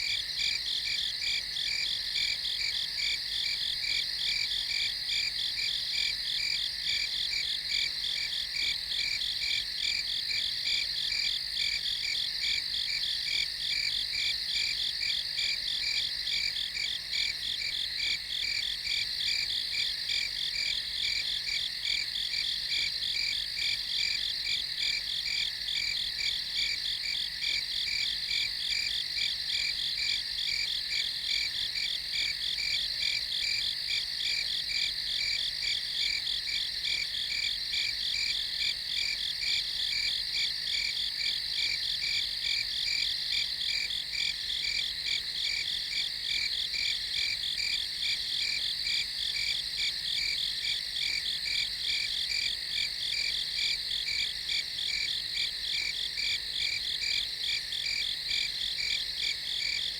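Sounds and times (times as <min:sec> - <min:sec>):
crickets chirping: 0:00.1 - 0:59.9.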